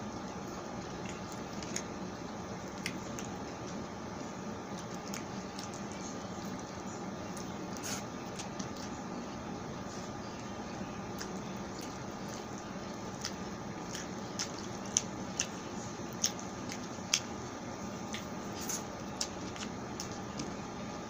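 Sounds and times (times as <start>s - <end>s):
wet chewing sounds: 0.2s - 9.2s, 9.8s - 20.8s.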